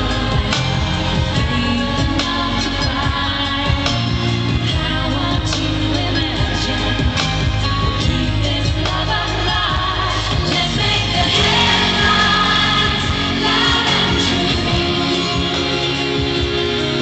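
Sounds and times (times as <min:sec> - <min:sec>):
amplified band: 0:00.0 - 0:17.0
female vocal group singing: 0:00.0 - 0:17.0.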